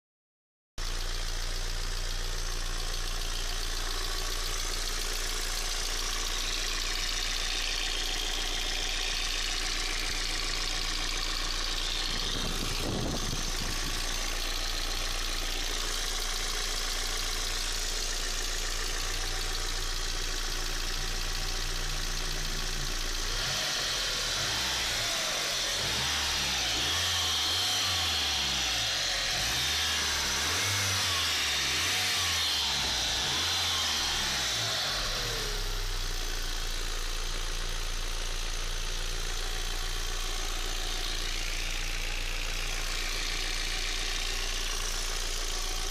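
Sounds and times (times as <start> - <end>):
car engine idling and revving: 0.8 - 45.9.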